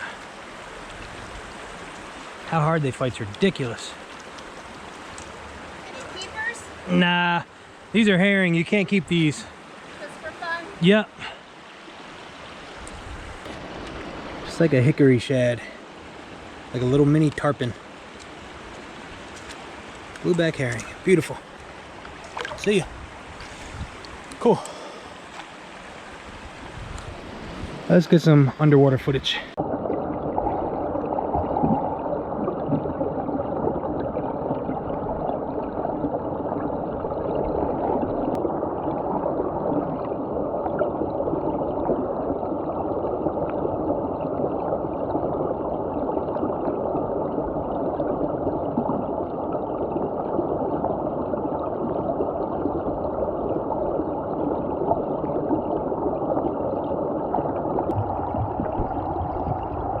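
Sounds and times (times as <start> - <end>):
muffled underwater stream rushing: 0.0 - 60.0.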